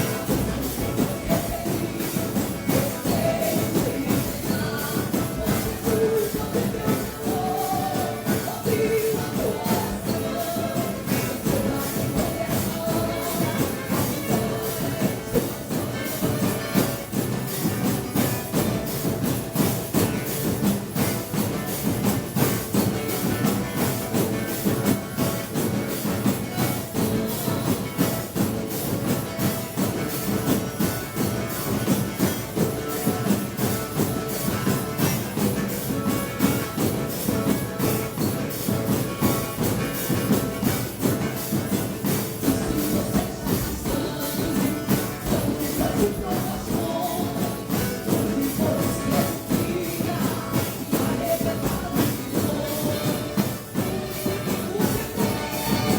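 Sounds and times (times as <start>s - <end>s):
backing instruments: 0.0s - 55.9s
drum kit beat: 0.0s - 55.9s.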